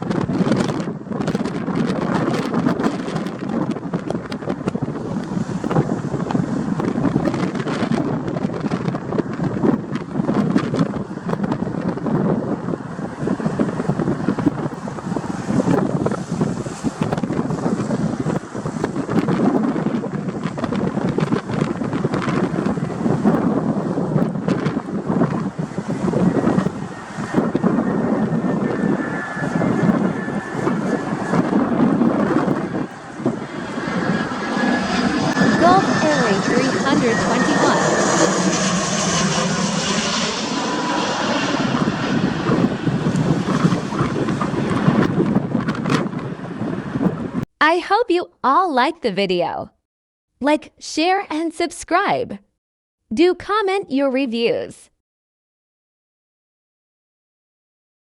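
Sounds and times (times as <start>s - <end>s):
jet airliner engine roar: 0.0s - 47.5s
wind buffeting microphone: 0.0s - 47.5s.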